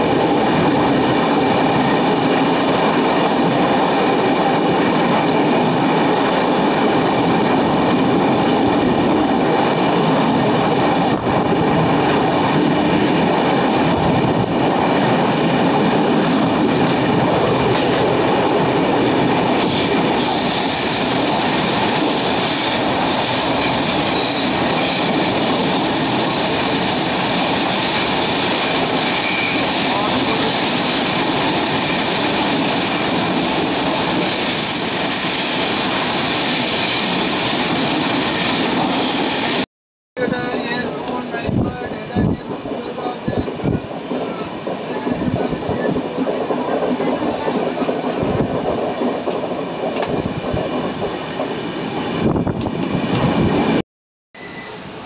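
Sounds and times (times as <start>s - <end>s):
train wheels rushing on rails: 0.0s - 39.7s, 40.4s - 53.8s.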